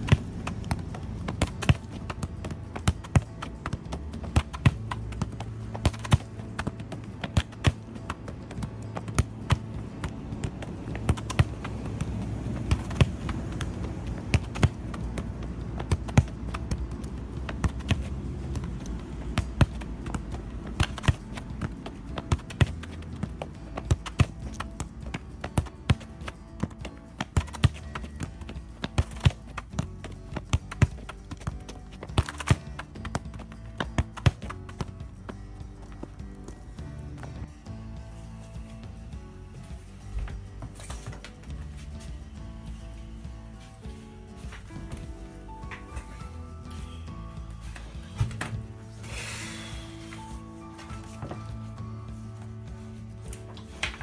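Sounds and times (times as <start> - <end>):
ball tapping on asphalt: 0.0 - 48.8
background music: 0.0 - 54.0.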